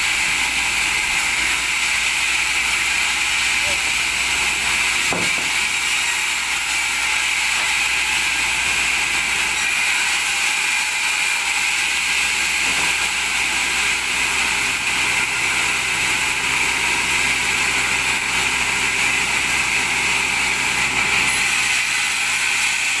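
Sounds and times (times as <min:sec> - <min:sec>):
sawmill saw cutting wood: 0:00.0 - 0:23.0.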